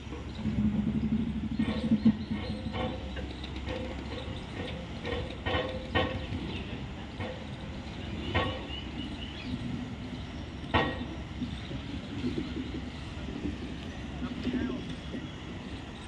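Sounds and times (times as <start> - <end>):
train coaches rumbling: 0.0 - 16.0
wheels clacking over rail joints: 0.0 - 16.0.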